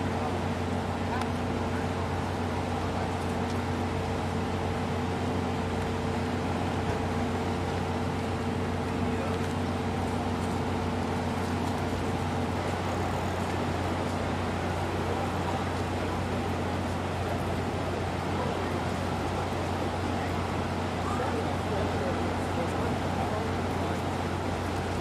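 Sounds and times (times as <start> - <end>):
heavy engines droning: 0.0 - 25.0
outdoor noise: 0.0 - 25.0.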